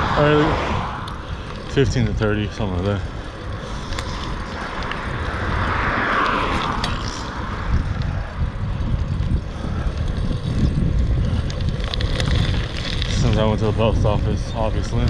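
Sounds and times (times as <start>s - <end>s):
bicycle road noise: 0.0s - 15.0s
wind rumbling on microphone: 0.0s - 15.0s.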